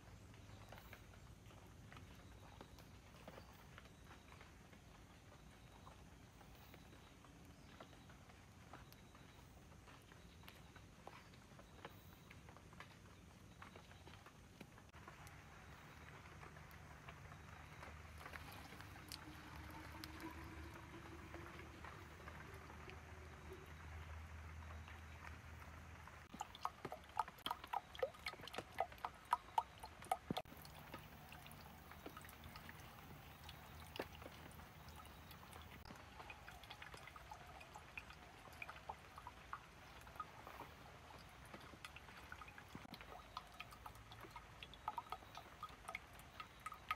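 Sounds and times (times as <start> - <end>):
water dripping into clay pot: 0.0 - 46.9.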